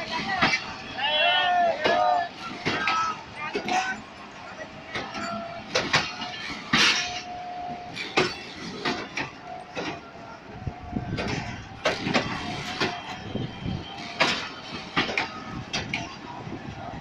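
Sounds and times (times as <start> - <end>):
train wheels clacking over rail joints: 0.0 - 10.2, 10.8 - 16.4
train rumble: 0.0 - 17.0.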